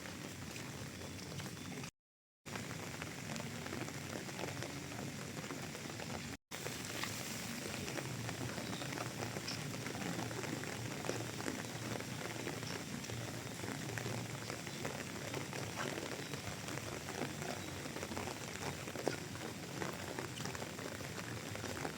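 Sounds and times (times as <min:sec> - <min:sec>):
rain falling: 0:02.5 - 0:21.9.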